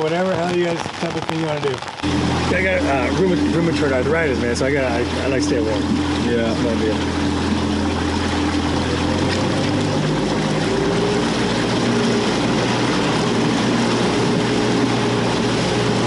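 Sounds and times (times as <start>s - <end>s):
outboard motor running: 0.0s - 16.0s
rushing water: 0.0s - 16.0s
wind: 0.0s - 16.0s.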